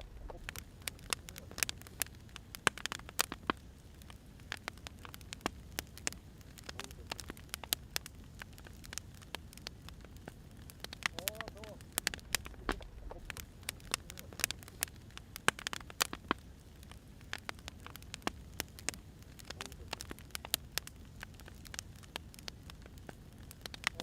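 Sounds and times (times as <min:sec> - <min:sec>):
soft steady hiss: 0:00.0 - 0:24.0
wood fire crackling: 0:00.0 - 0:24.0.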